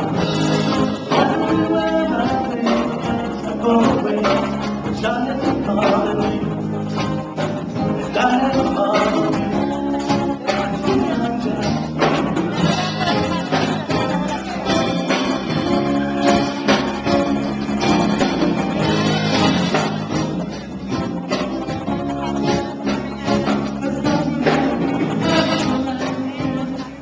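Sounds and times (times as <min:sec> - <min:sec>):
live band guitar song: 0:00.0 - 0:27.0
person singing: 0:00.0 - 0:27.0.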